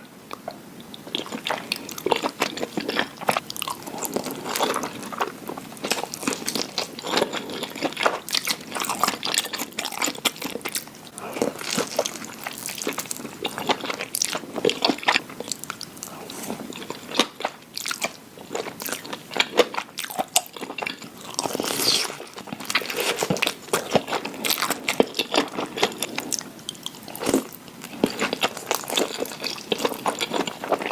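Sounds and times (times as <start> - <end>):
mouth chewing rice cakes: 0.3 - 30.9.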